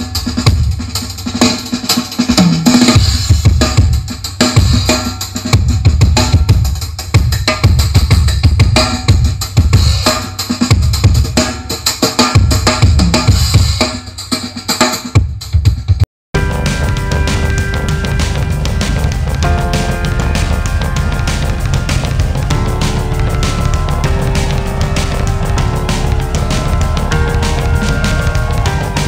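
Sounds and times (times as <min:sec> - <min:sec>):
heavy bass drum beats: 0:00.0 - 0:29.0
loud drum-heavy music: 0:00.0 - 0:29.0
snare and cymbals: 0:00.0 - 0:29.0.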